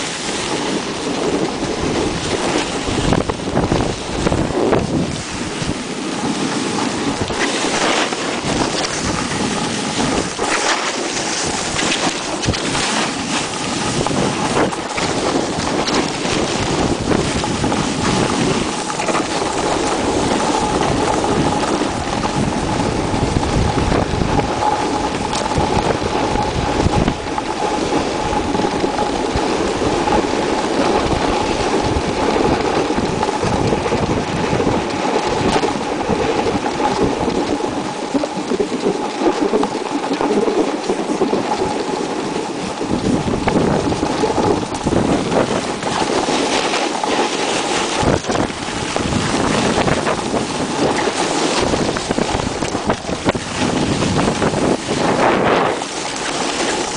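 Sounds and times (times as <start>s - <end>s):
snowboard scraping over snow: 0.0s - 56.9s
wind rushing over microphone: 0.0s - 56.9s.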